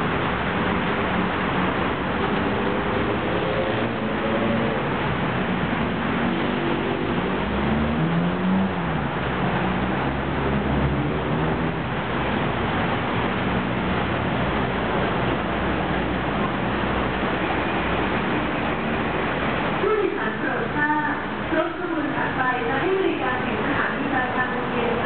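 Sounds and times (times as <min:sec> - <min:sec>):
city traffic: 0:00.0 - 0:25.0
rain: 0:00.0 - 0:25.0.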